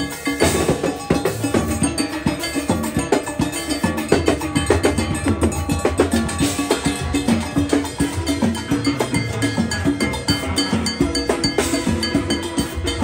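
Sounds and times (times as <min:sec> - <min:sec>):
busy percussion beat: 0:00.0 - 0:13.0
steel pans playing melody: 0:00.0 - 0:13.0.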